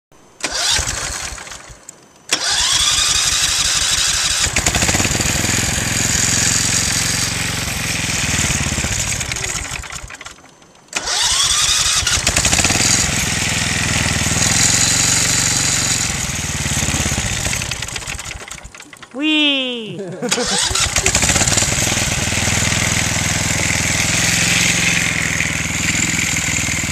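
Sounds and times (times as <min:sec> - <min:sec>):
small tractor engine starting: 0:00.4 - 0:19.2, 0:20.2 - 0:26.9.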